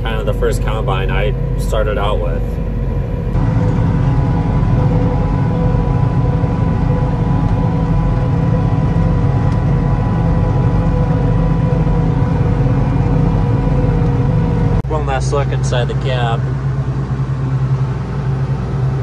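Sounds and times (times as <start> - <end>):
constant whine: 0.0 - 19.0
engine and drivetrain drone: 0.0 - 19.0.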